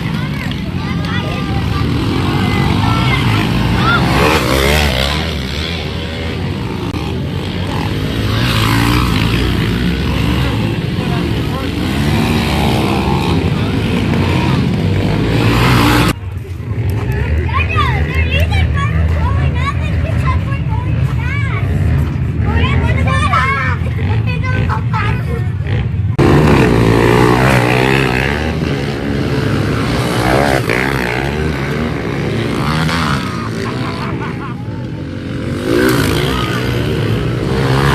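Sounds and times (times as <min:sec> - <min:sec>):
pit bike engines revving: 0:00.0 - 0:37.9.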